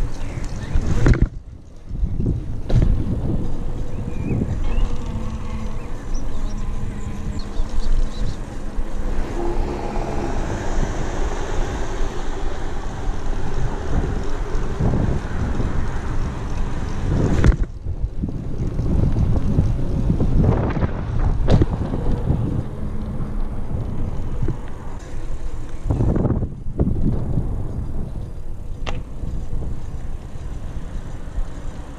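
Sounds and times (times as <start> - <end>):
bicycle tyre rumble: 0.0 - 31.9
wind buffeting microphone: 0.0 - 31.9.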